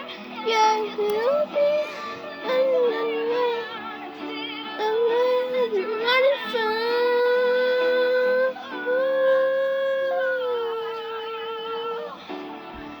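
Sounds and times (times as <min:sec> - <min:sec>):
high voice singing: 0:00.0 - 0:12.2.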